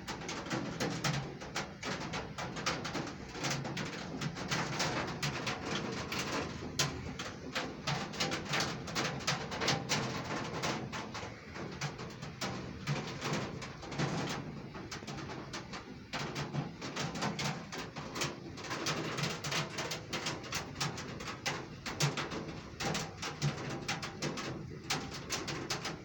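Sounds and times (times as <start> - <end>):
heavy rain falling: 0.0 - 26.0
raindrops tapping: 0.0 - 26.0.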